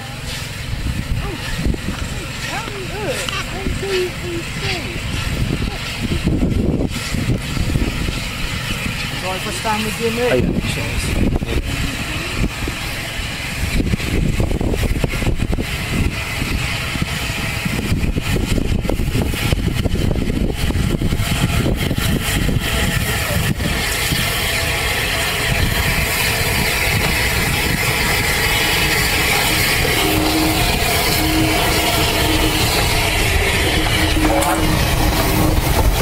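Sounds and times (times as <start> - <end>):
steam locomotive exhaust beats: 0.0 - 36.0
train rolling past: 0.0 - 36.0.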